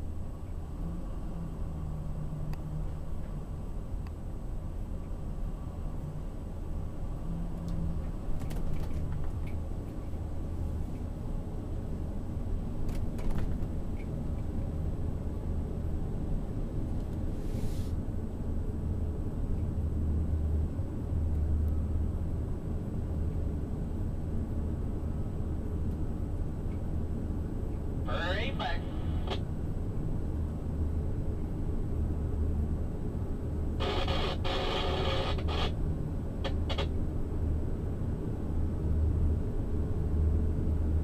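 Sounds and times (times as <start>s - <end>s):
motorhome engine rumble: 0.0s - 41.0s.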